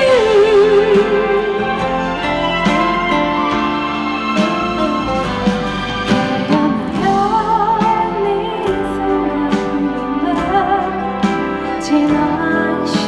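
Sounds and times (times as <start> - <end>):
live band playing pop ballad: 0.0 - 13.0.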